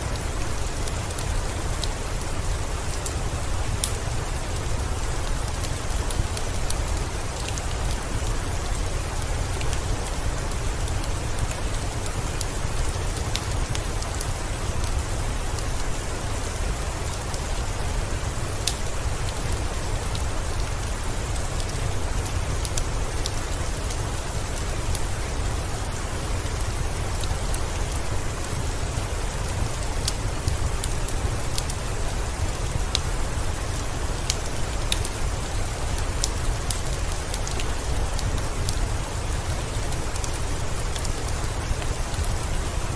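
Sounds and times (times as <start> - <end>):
heavy rain with low rumble: 0.0 - 42.9
wood fire crackling: 0.0 - 42.9.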